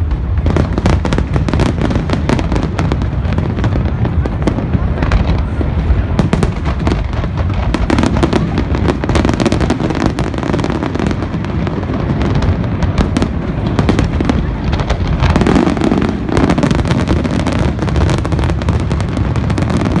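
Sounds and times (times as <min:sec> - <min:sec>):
heavy low rumble: 0:00.0 - 0:19.5
fireworks bangs and crackles: 0:00.0 - 0:20.0.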